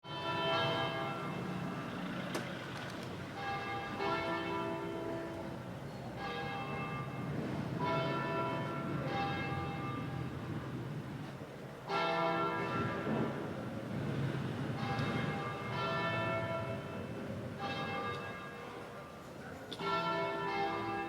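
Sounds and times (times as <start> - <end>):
distant church bells ringing: 0.0 - 2.4, 3.2 - 21.0.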